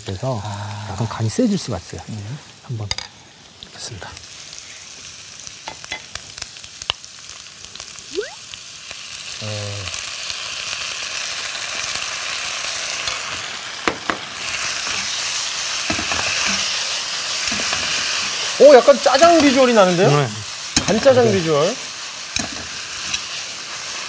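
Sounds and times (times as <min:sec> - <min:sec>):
vegetables sizzling in a wok: 0:00.0 - 0:24.0.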